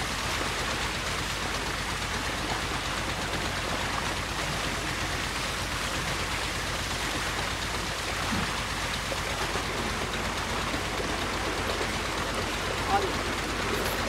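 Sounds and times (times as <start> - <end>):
water gushing and splashing: 0.0 - 14.0.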